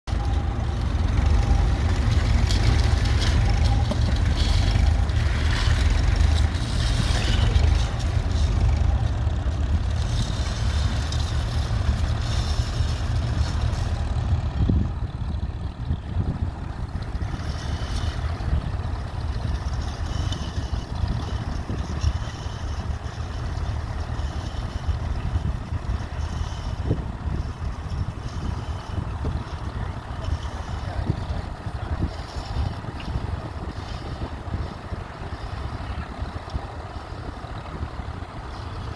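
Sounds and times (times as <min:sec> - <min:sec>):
diesel tractor engine running: 0:00.0 - 0:38.9
wind rumbling on microphone: 0:00.1 - 0:38.9.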